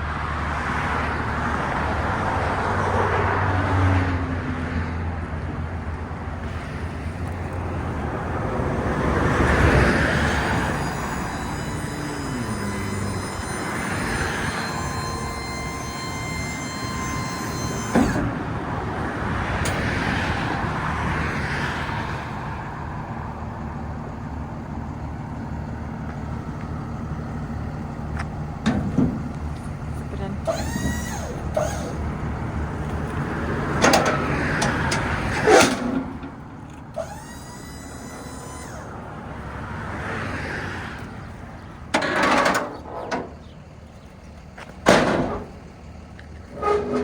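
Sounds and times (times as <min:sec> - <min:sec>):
truck engine running: 0:05.1 - 0:47.0.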